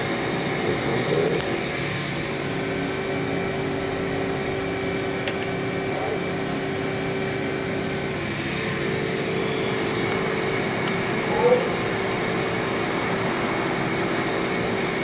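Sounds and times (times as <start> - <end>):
machine hum with constant tones: 0.0 - 15.0.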